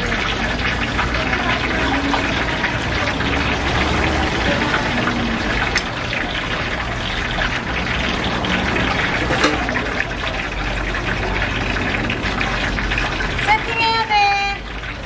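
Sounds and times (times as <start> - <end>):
hot oil bubbling and sizzling: 0.0 - 15.0.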